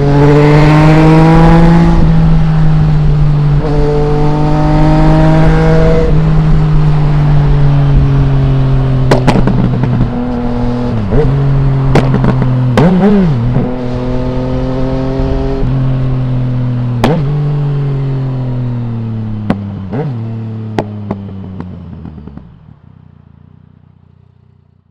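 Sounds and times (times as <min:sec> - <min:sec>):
motorcycle engine slowing: 0:00.0 - 0:24.9.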